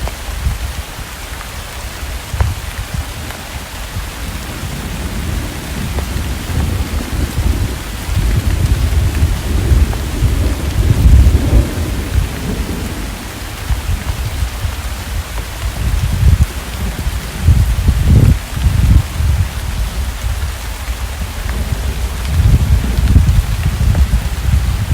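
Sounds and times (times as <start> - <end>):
steady rain: 0.0 - 24.9
rolling thunder: 3.0 - 20.5, 21.2 - 24.9.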